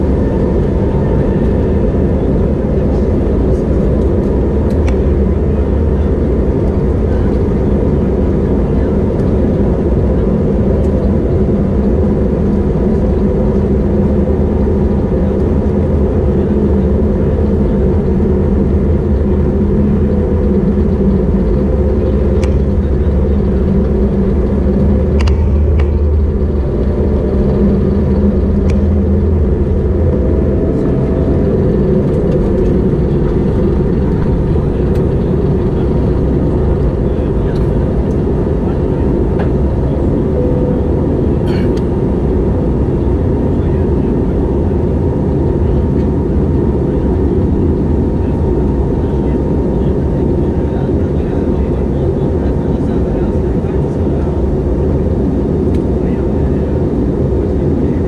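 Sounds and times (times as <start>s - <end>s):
jet engine drone: 0.0s - 58.0s
thin engine whine: 0.0s - 58.0s.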